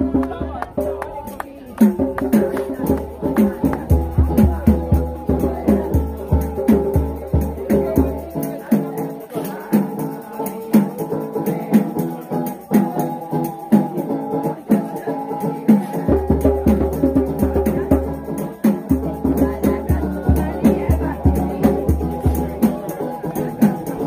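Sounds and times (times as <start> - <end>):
music with steady beat: 0.0 - 24.0.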